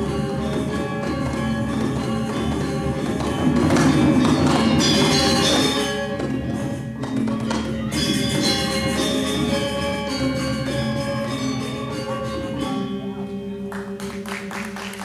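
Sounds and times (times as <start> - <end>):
gamelan metallophones and gongs: 0.0 - 14.8.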